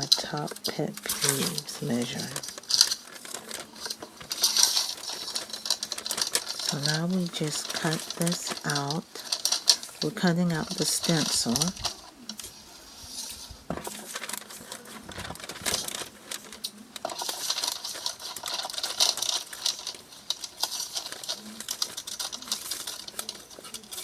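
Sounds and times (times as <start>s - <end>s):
paper crackling and rustling: 0.0s - 24.0s
scissors snipping paper: 0.0s - 24.0s.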